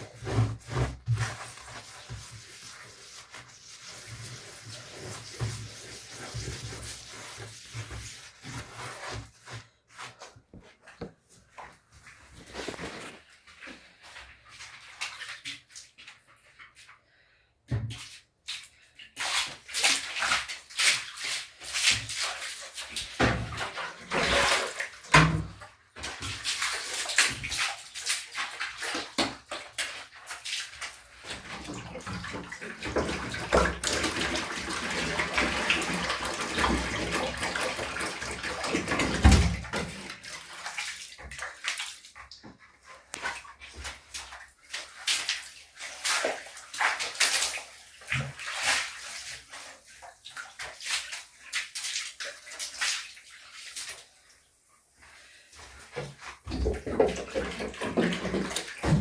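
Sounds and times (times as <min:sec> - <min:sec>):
water splashing and sloshing: 0:00.0 - 0:59.0.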